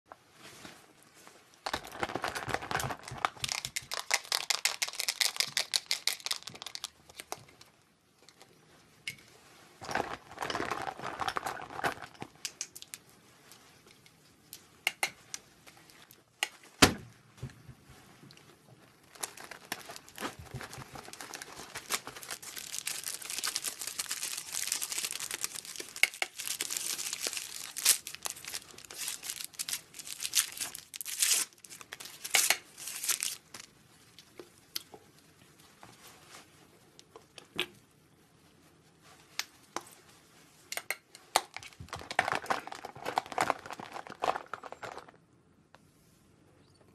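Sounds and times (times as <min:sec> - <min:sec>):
clothing rustling and crinkling: 0:00.1 - 0:03.6, 0:06.2 - 0:37.4, 0:38.2 - 0:40.7, 0:41.6 - 0:46.2.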